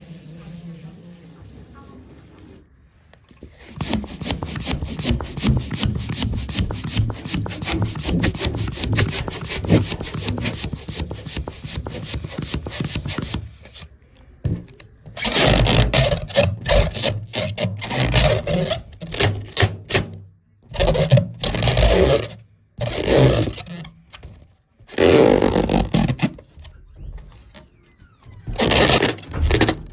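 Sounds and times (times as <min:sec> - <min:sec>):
hands rubbing a rubber balloon: 0:03.4 - 0:13.9, 0:15.1 - 0:29.9.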